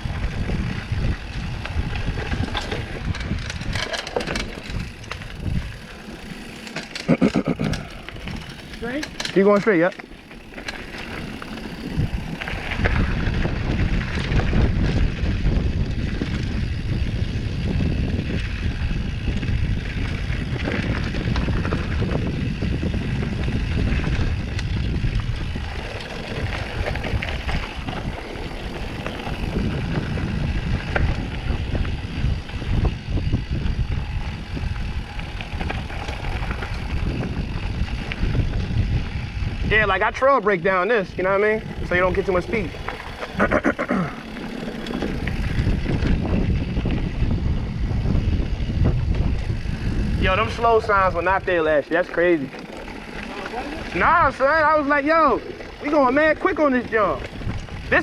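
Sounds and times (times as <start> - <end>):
bike rattling: 0.0 - 58.0
bike tyre noise: 0.0 - 58.0
wind rumble on microphone: 0.0 - 58.0.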